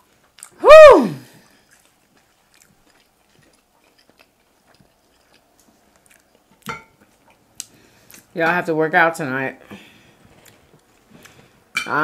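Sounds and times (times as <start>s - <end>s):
faint chewing: 0.0s - 0.6s, 1.2s - 8.6s, 9.6s - 11.7s.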